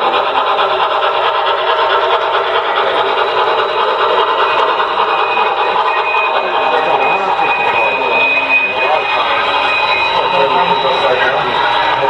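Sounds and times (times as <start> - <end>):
model train rattling on track: 0.0 - 12.0.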